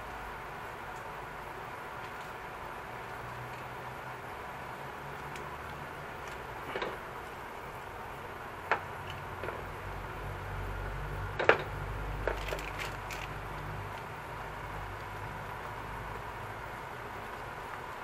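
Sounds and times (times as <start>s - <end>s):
food simmering in frying pan: 0.0s - 18.0s.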